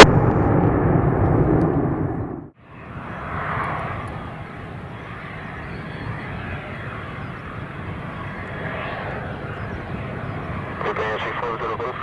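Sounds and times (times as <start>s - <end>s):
jet engines rushing: 0.0s - 12.0s
wind rumbling on microphone: 0.0s - 12.0s.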